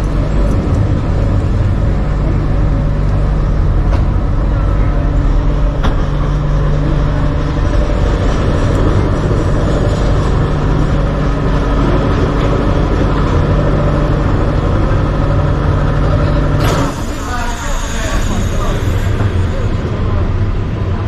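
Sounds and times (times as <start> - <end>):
noisy din: 0.0 - 21.0
tram low hum: 0.0 - 21.0.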